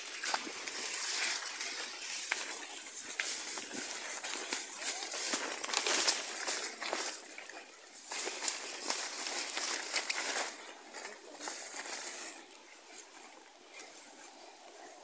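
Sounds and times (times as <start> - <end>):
footsteps through leafy undergrowth: 0.0 - 15.0.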